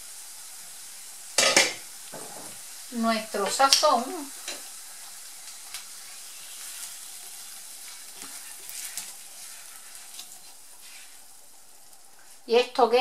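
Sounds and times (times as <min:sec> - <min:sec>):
fat sizzling: 0:00.0 - 0:13.0.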